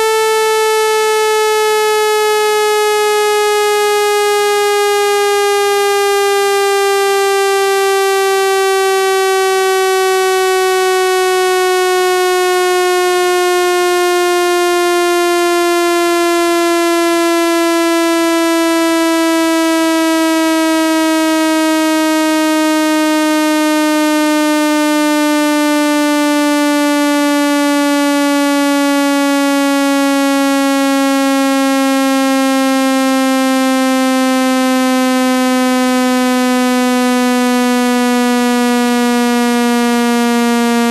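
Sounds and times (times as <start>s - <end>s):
buzzy tone sliding lower in pitch: 0.0s - 40.9s.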